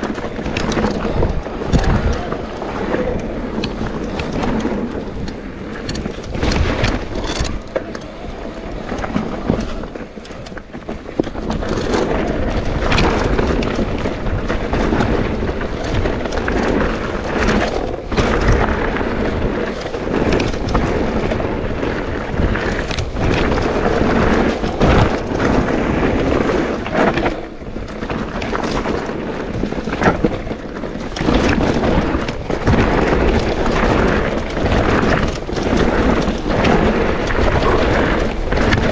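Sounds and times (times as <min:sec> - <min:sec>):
bike knocks and rattles: 0:00.0 - 0:38.9
bike tyres rumbling on dirt: 0:00.0 - 0:38.9
wind buffeting microphone: 0:00.0 - 0:38.9.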